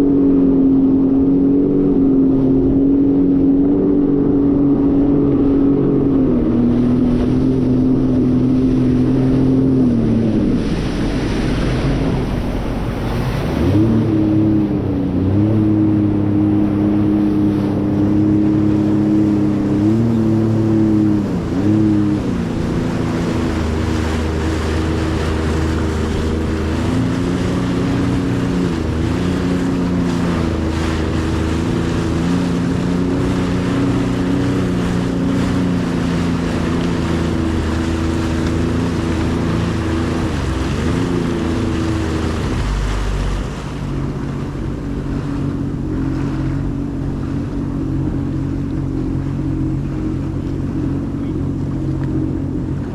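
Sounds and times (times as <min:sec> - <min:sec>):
jet ski engine running: 0:00.0 - 0:52.9
wind and water hiss: 0:00.0 - 0:52.9.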